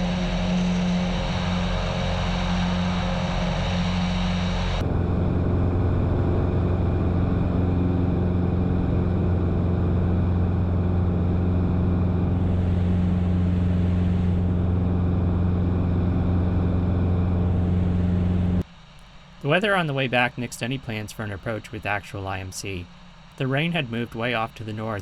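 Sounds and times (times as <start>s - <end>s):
airplane engine and propeller drone: 0.0s - 25.0s.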